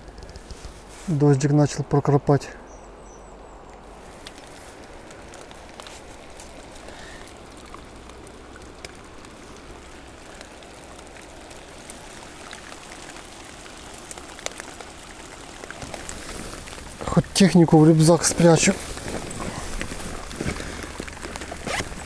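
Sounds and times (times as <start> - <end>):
rain pattering on pond: 0.0 - 22.0.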